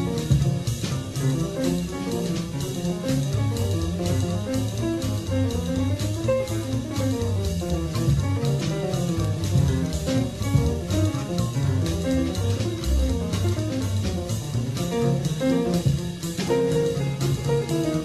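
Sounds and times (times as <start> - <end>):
bass: 0.0 - 18.0
drum kit beat: 0.0 - 18.0.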